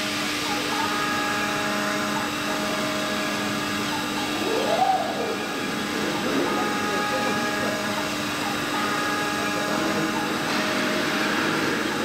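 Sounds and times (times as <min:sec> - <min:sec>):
cnc router spindle whining: 0:00.0 - 0:12.0.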